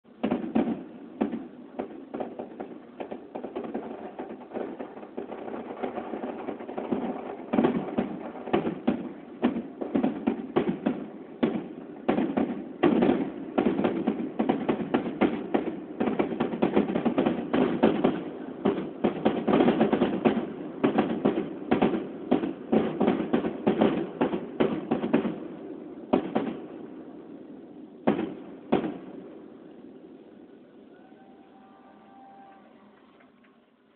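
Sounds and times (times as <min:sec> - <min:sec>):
fireworks bursting: 0:00.0 - 0:33.9.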